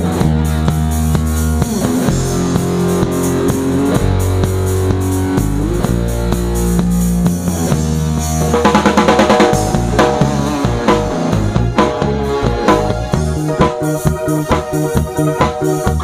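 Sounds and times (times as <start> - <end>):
drum kit beat: 0.0 - 16.0
electric bass guitar: 0.0 - 16.0
live pop band playing: 0.0 - 16.0.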